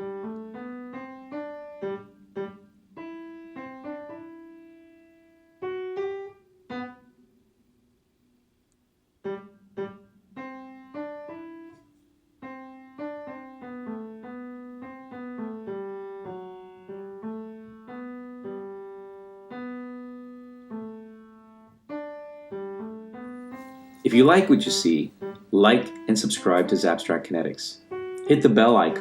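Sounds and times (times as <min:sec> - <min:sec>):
slow piano melody: 0:00.0 - 0:08.2, 0:09.0 - 0:29.0.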